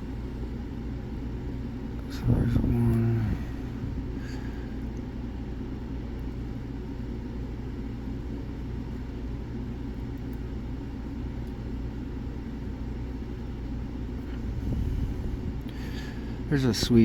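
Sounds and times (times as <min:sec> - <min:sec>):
low rumbling hum: 0:00.0 - 0:17.0.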